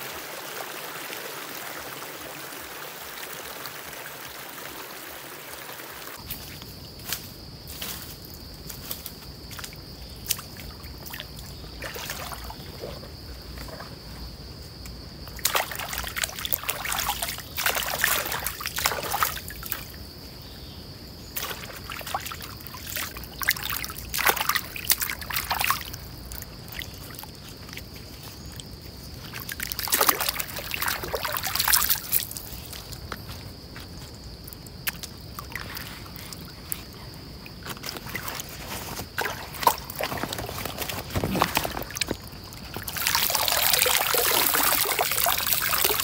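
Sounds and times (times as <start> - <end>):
water splashing and sloshing: 0.0 - 20.1, 21.2 - 46.0.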